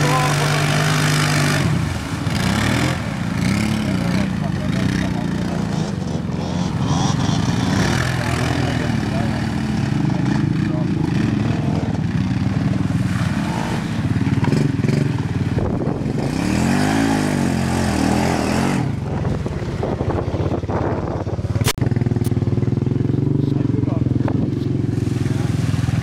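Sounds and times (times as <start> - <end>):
muddy water splashing: 0.0 - 26.0
quad bike engines revving: 0.0 - 26.0.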